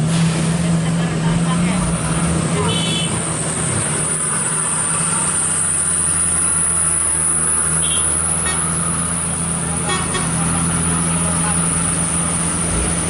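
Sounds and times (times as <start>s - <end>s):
truck engine under heavy load: 0.0s - 13.0s.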